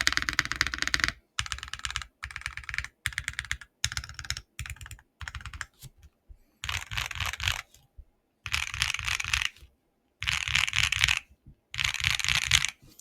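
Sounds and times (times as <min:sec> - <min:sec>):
mechanical keyboard typing: 0:00.0 - 0:05.9, 0:06.6 - 0:07.8, 0:08.5 - 0:09.6, 0:10.2 - 0:12.8.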